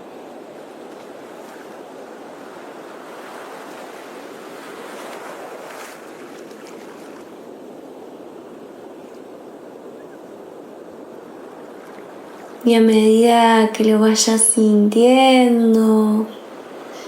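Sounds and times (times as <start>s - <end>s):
sea surf washing on shore: 0.0s - 17.0s.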